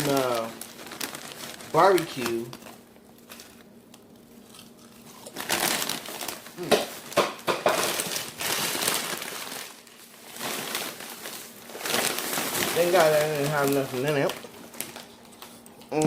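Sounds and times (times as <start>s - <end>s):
plastic chip bag crinkling: 0.0s - 16.0s.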